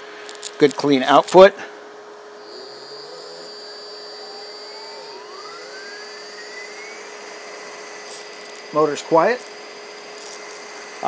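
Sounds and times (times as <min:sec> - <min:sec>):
electric motor whine rising: 0:00.0 - 0:01.4, 0:02.0 - 0:11.0
steady high-pitched tones: 0:02.1 - 0:11.0.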